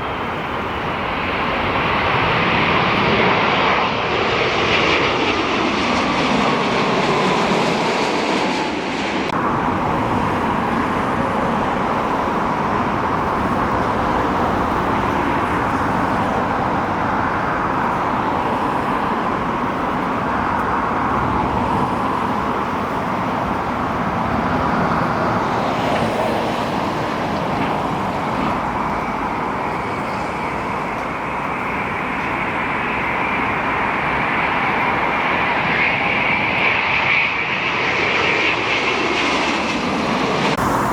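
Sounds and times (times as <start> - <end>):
high engine whine: 0.0 - 40.9
jet engine roar: 0.0 - 40.9.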